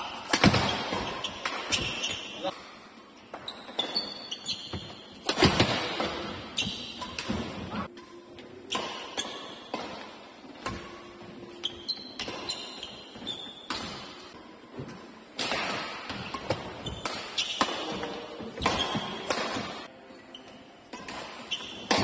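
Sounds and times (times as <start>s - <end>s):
racket striking shuttlecock: 0.1s - 2.7s, 3.3s - 14.2s, 14.8s - 19.8s, 20.9s - 22.0s
shoes squeaking on court: 0.5s - 2.5s, 3.3s - 15.2s, 16.1s - 22.0s.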